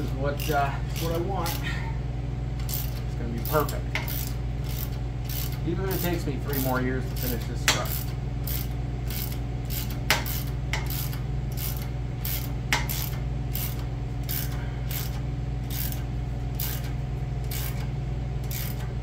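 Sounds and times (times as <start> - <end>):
steady low hum: 0.0 - 19.0
hand ratchet clicking: 0.4 - 1.6, 2.6 - 18.9.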